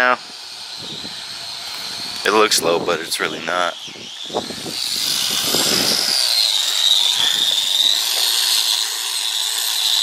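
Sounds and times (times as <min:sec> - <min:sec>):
electric polisher whining: 0:00.0 - 0:10.0.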